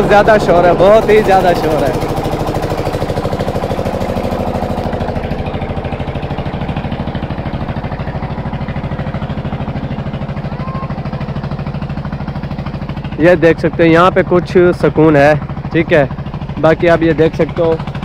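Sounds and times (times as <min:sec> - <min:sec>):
pump engine chugging: 0:00.0 - 0:18.0.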